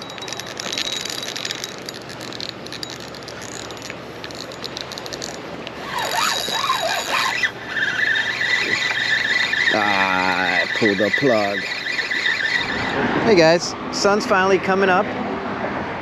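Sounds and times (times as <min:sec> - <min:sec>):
fishing reel clicking: 0:00.0 - 0:13.0
wavering pitched sound: 0:00.0 - 0:13.0.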